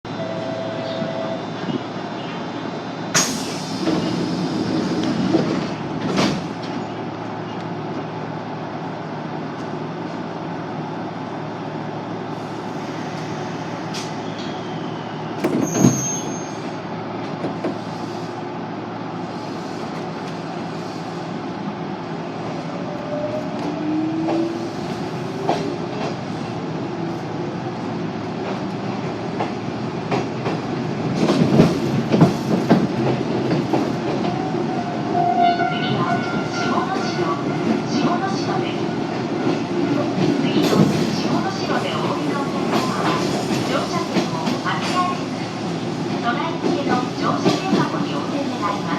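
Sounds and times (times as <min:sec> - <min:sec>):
train wheels rumbling on track: 0:00.8 - 0:48.9.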